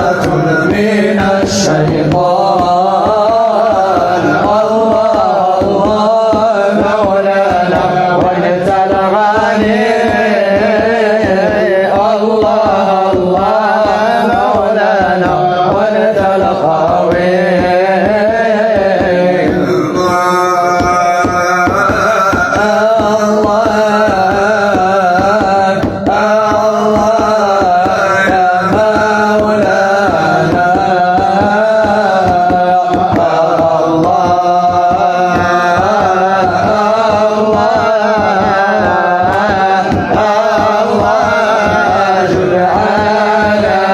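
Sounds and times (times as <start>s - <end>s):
hand drum rhythm: 0.0s - 43.9s
person singing religious song: 0.0s - 43.9s.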